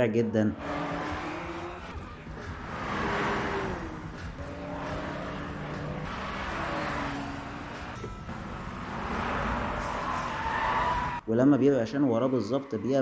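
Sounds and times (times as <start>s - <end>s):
car engines running hard: 0.5s - 11.2s.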